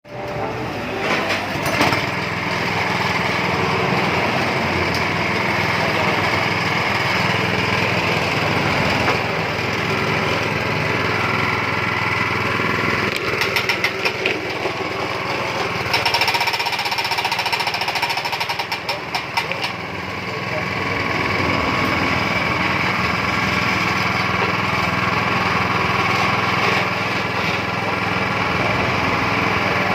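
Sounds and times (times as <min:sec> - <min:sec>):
winch engine running: 0:00.1 - 0:29.9.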